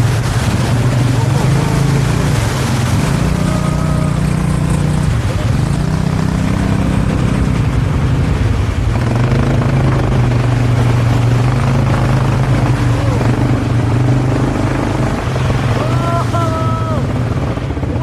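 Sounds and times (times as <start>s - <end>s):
quad bike engine droning: 0.0s - 18.0s.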